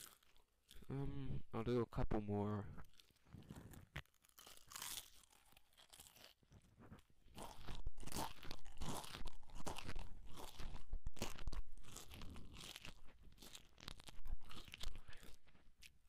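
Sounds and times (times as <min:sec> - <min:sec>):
potato chips crunching: 0:00.0 - 0:01.0, 0:02.8 - 0:16.0.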